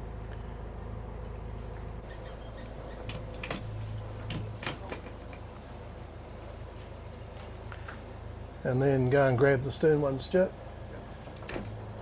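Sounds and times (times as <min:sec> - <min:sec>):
boat engines humming: 0:00.0 - 0:12.0.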